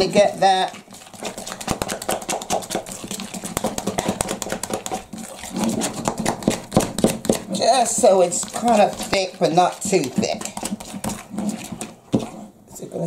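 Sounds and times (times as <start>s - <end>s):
utensil beating batter in bowl: 0.0s - 13.0s.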